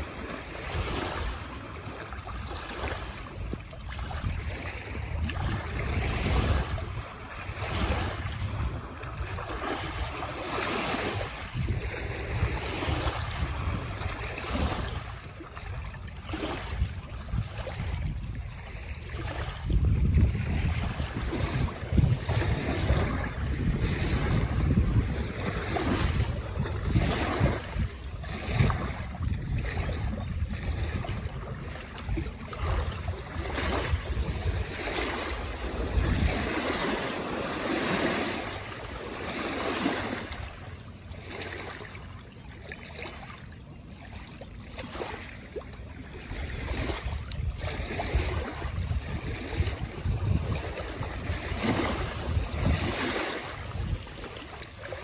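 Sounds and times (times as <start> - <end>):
wind buffeting microphone: 0.0 - 42.0, 46.2 - 55.0
waves washing onto shore: 0.0 - 55.0.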